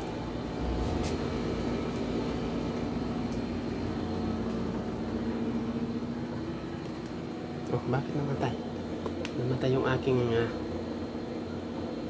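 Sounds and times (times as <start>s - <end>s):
appliance humming: 0.0s - 12.0s.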